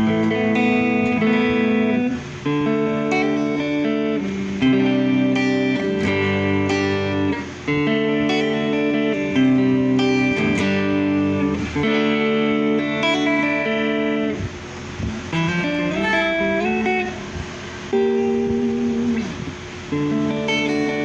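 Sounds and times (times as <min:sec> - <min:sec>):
electric guitar chords and notes: 0:00.0 - 0:21.0.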